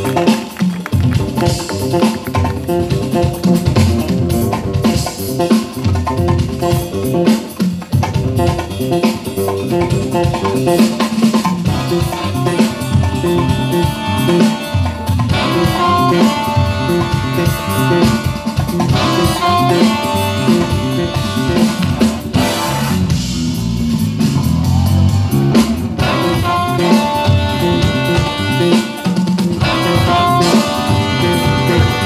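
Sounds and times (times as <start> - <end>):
jazz band playing: 0.0 - 32.0.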